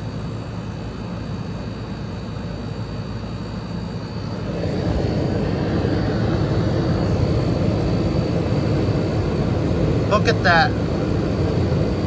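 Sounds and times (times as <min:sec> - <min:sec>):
air conditioner fan rushing: 0:00.0 - 0:12.0.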